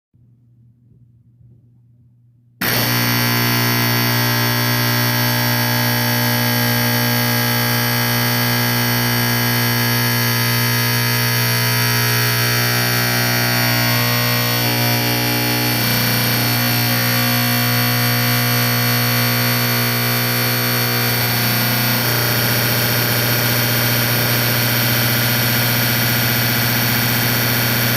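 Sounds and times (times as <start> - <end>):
fire alarm horn buzzing: 2.6 - 27.9.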